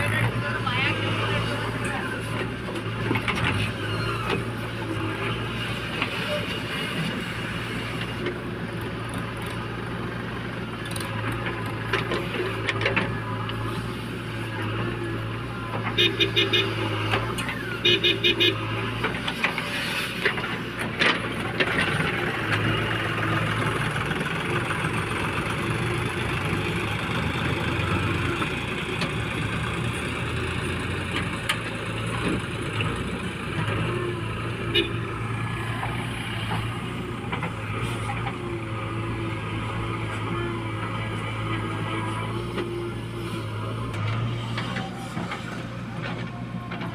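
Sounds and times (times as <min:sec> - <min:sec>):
diesel machinery engine running: 0:00.0 - 0:46.9.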